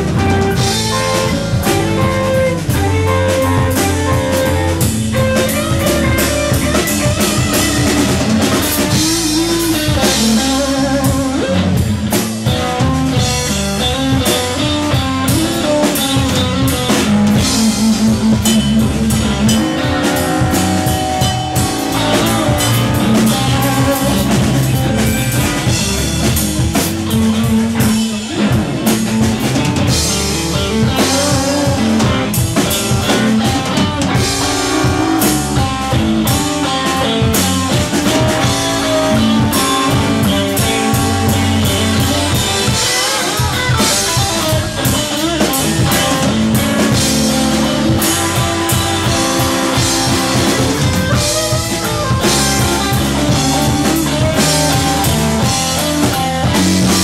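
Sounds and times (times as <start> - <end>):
blues band playing: 0.0 - 57.0
lead electric guitar: 0.0 - 57.0.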